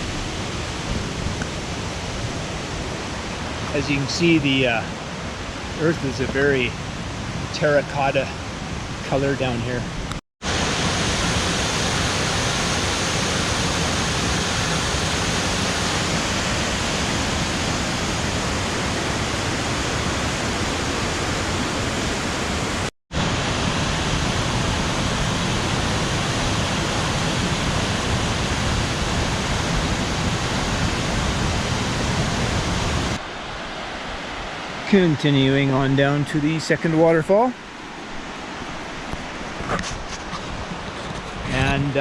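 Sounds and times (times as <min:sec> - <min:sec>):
waterfall rushing: 0:00.0 - 0:39.6.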